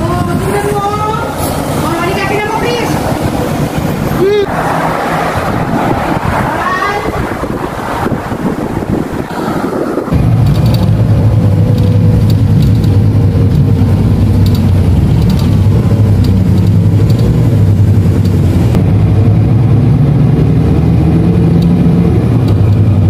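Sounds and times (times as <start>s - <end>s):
bus engine drone: 0.0s - 23.0s
road rumble: 0.0s - 23.0s.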